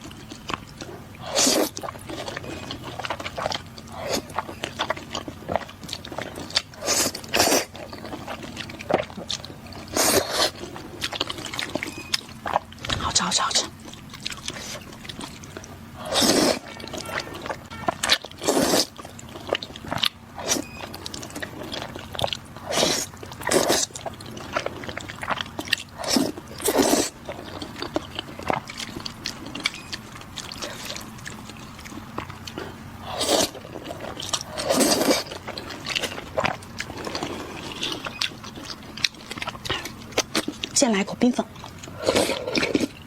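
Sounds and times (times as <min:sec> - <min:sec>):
biting and wet chewing: 0:00.0 - 0:43.0.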